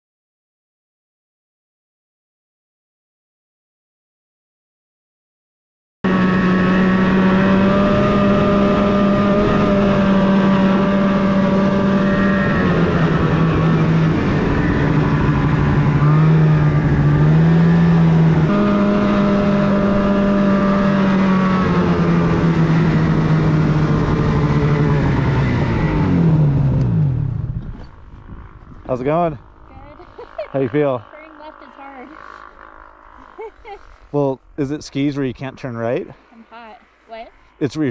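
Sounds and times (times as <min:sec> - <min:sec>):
snowmobile engine droning: 0:06.0 - 0:37.9.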